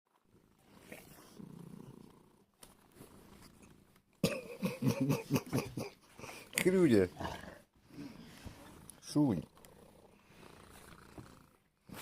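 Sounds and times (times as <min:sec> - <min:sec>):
cat purring: 0:00.1 - 0:04.2, 0:04.8 - 0:12.0.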